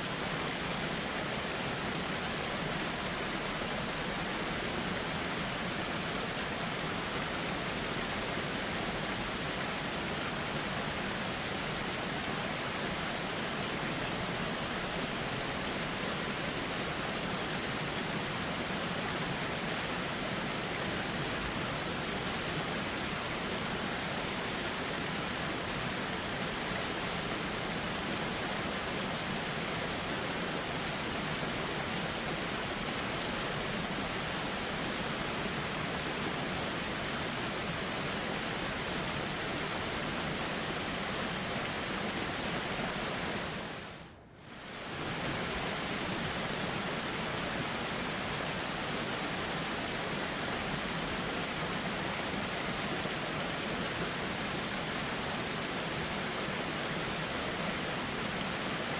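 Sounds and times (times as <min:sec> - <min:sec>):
river flowing: 0:00.0 - 0:58.9.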